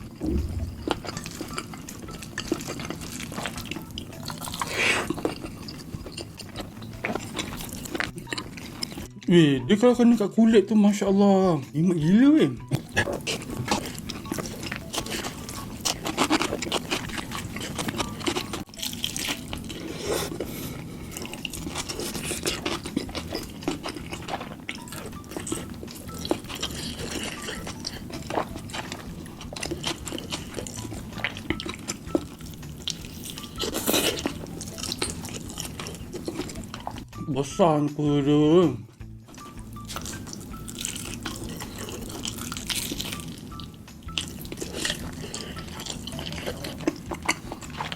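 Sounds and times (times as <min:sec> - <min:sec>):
wet chewing and mouth sounds: 0:00.0 - 0:09.3, 0:12.6 - 0:37.2, 0:38.8 - 0:47.9.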